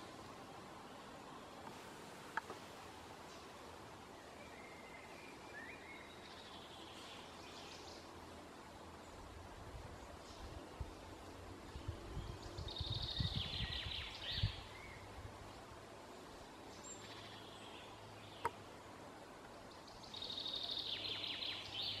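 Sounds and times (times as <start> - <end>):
faint woodland background: 0.0 - 22.0
songbird singing: 0.0 - 22.0.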